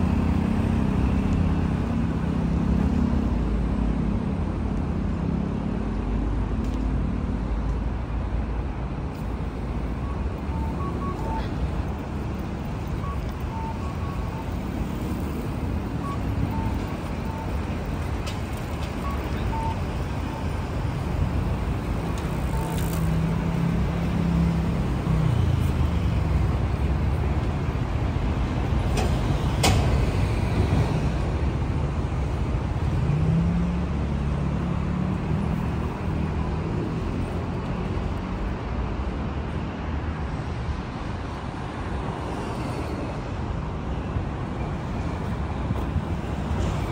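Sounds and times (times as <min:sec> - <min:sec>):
vehicles passing: 0:00.0 - 0:46.9.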